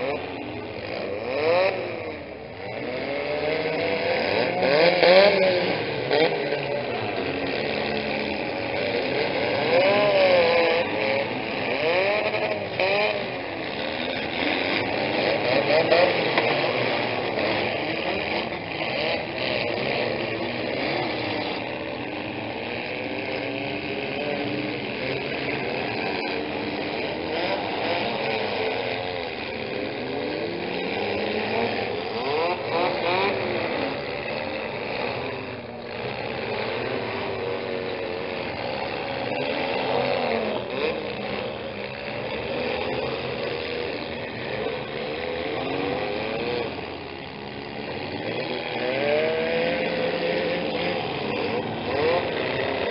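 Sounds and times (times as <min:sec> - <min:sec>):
car engines revving hard: 0:00.0 - 0:52.9.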